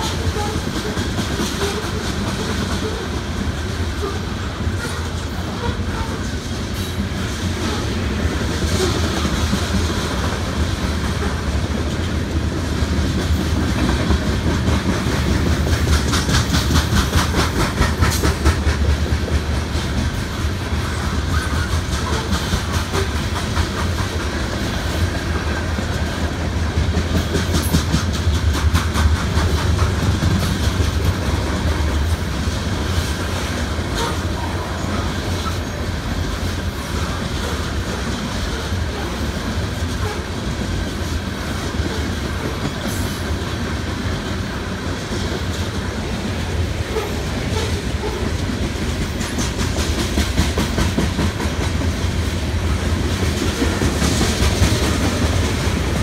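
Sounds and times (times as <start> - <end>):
freight train wheels rumbling: 0.0 - 56.0
train wheels clickety-clack: 0.0 - 56.0.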